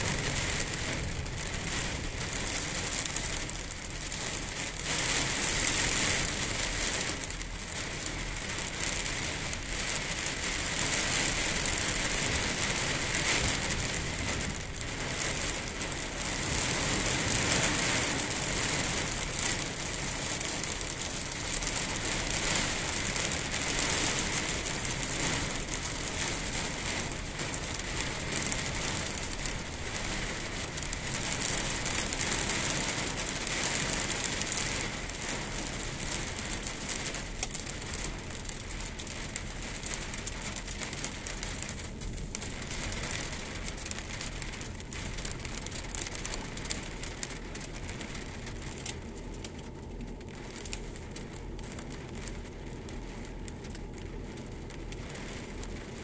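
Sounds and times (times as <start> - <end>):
heavy rain on water: 0.0 - 56.0.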